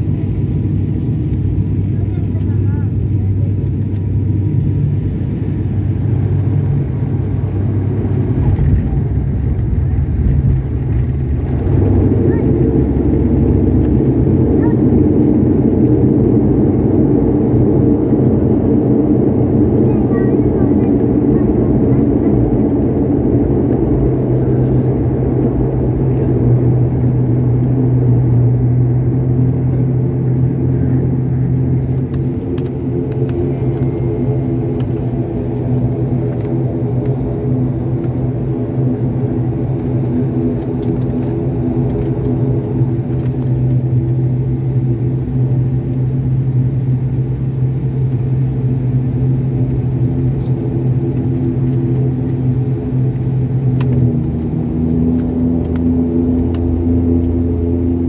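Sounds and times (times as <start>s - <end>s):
propeller plane engines droning: 0.0s - 58.0s
steady higher engine tones: 0.0s - 58.0s.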